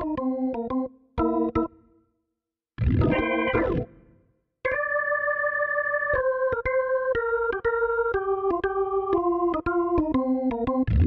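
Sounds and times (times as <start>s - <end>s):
electronic organ melody: 0.0s - 2.1s, 2.9s - 11.0s.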